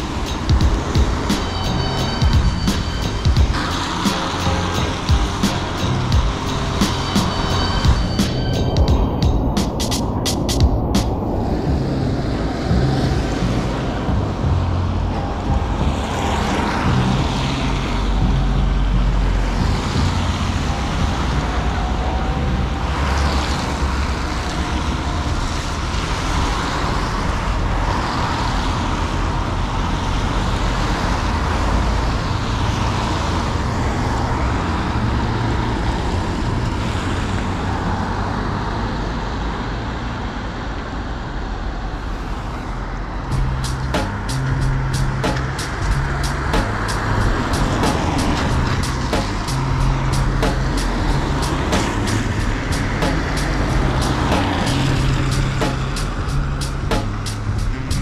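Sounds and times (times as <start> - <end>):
cars passing on wet road: 0.0 - 58.0.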